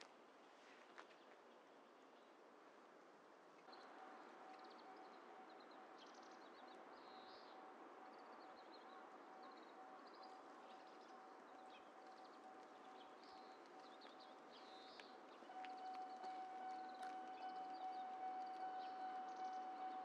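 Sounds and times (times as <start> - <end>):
faint outdoor ambience: 0.0 - 20.0.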